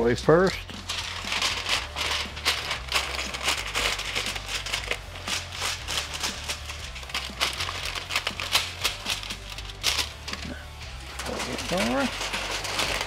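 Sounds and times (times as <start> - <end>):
aluminium foil crinkling: 0.7 - 13.0.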